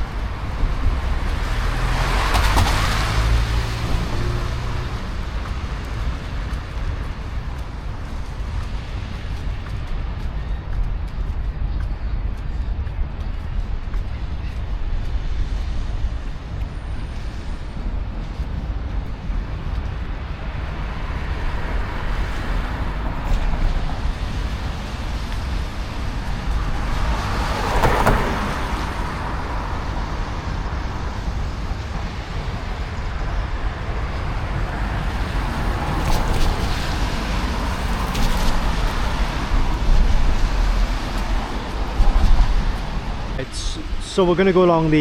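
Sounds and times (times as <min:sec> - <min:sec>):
low traffic rumble: 0:00.0 - 0:45.0
road traffic passing: 0:00.0 - 0:45.0.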